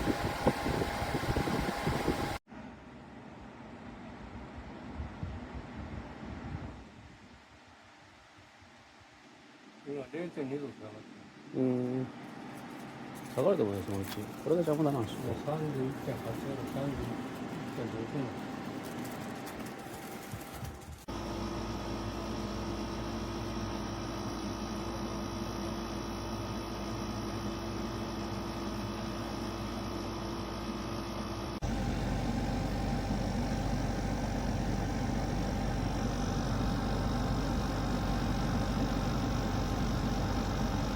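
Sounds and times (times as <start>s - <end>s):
mechanical hum: 0.0s - 40.9s.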